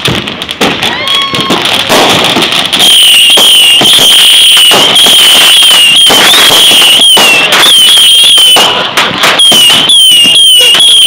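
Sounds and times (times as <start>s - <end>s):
fireworks crackling pops: 0.0s - 11.0s
shrill wavering firework whistle: 0.6s - 11.0s.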